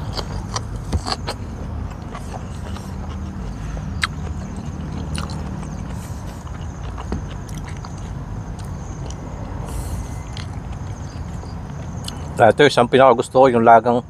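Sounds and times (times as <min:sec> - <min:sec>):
person chewing food: 0:00.0 - 0:12.4.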